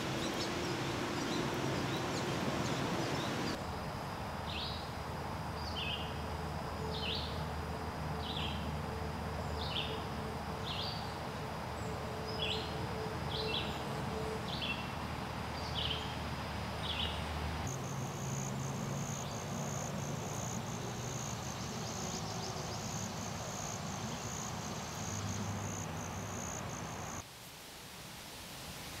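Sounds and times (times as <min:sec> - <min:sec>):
insects trilling: 0:00.0 - 0:27.2
soft outdoor hiss: 0:00.0 - 0:29.0.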